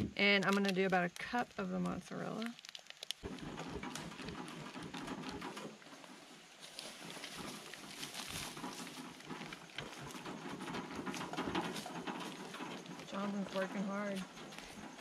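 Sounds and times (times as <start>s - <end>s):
dry branches dragged: 2.6s - 15.0s.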